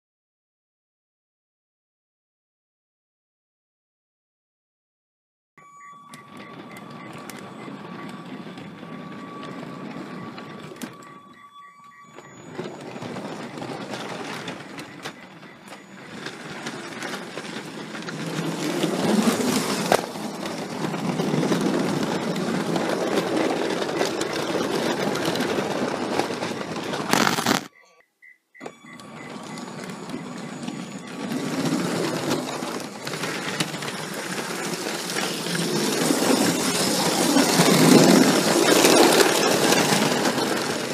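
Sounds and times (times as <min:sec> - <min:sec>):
toy train motor whirring and rattling: 0:06.1 - 0:27.7, 0:29.0 - 0:40.9.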